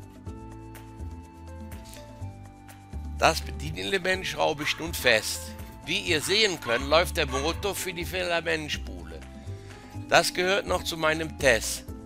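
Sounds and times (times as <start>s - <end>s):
background music with chords: 0.0s - 12.0s.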